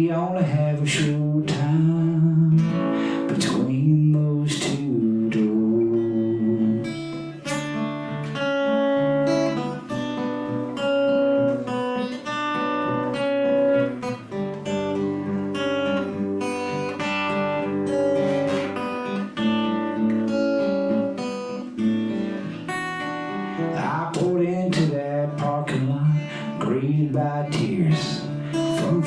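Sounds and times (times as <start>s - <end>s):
acoustic guitar picking and strumming: 0.0s - 29.0s.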